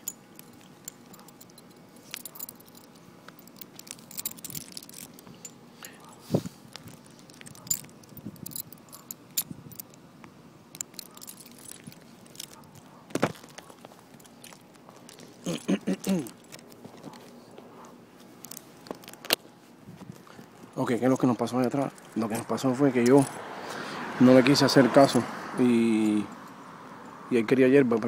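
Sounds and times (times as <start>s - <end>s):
dog harness and tags jingling: 0.0s - 10.0s, 10.7s - 23.5s.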